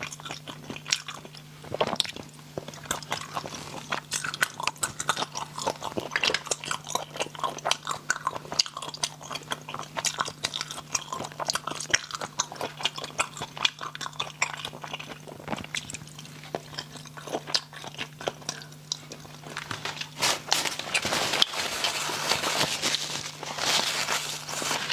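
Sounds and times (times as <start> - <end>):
person chewing and crunching: 0.0 - 24.9.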